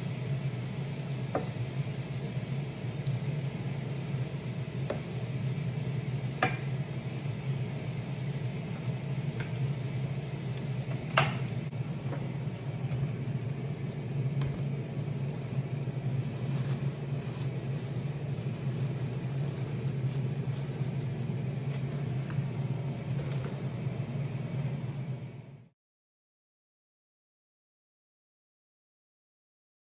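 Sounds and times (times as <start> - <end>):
fish deep-frying in hot oil: 0.0 - 24.7.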